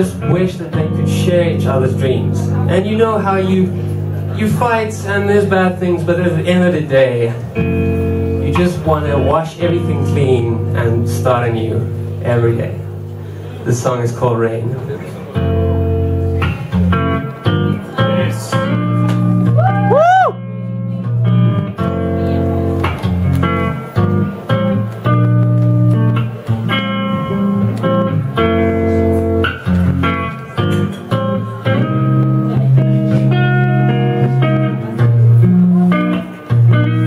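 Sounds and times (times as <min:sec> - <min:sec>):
lap guitar plucked melody: 0:00.0 - 0:37.0.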